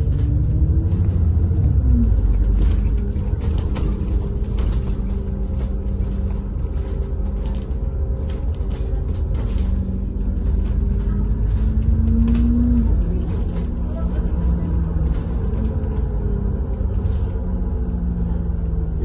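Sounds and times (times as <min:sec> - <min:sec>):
bus engine rumble: 0:00.0 - 0:19.0
light clicks and rattles: 0:00.1 - 0:19.0.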